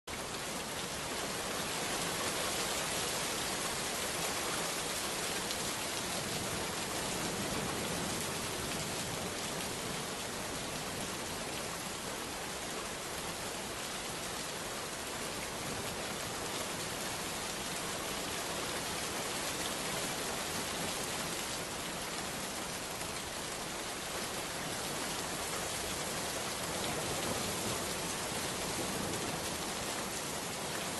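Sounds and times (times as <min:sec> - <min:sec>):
steady rain: 0:00.0 - 0:30.9.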